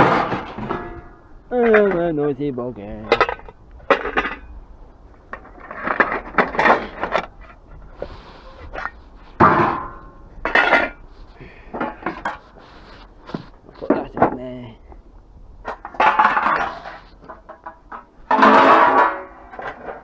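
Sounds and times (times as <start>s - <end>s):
scrap metal clanking: 0.0s - 4.6s, 5.3s - 14.4s, 15.6s - 20.0s.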